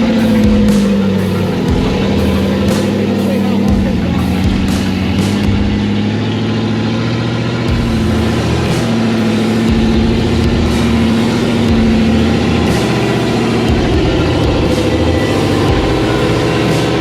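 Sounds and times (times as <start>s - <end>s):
vehicle engine at low revs: 0.0s - 17.0s.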